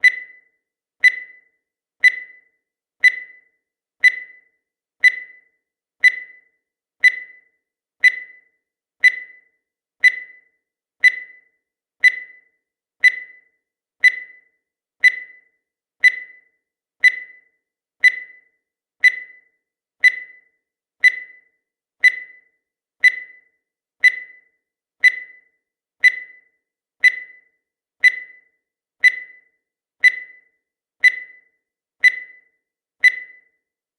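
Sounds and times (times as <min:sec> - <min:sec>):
countdown timer ticking: 0:00.0 - 0:33.7.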